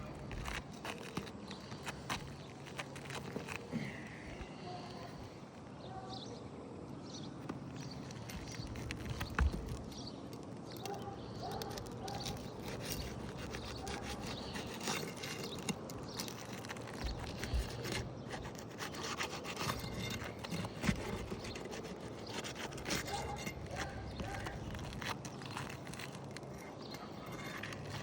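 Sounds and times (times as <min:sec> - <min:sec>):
scraping on roof shingles: 0:00.0 - 0:04.0, 0:07.8 - 0:10.1, 0:11.6 - 0:28.0.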